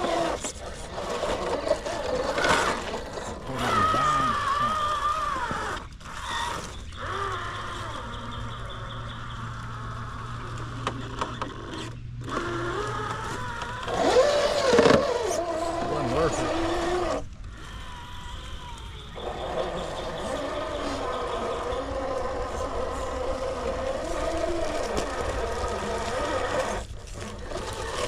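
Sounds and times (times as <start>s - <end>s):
electric motor and gear whine: 0.0s - 28.0s.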